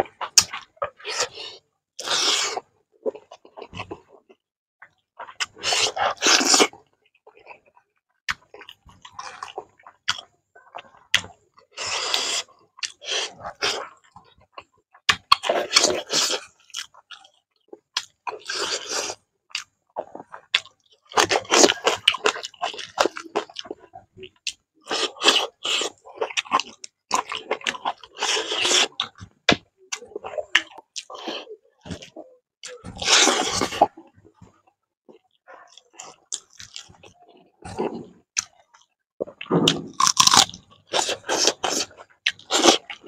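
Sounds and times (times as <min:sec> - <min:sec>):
wet chewing: 0:05.2 - 0:43.0.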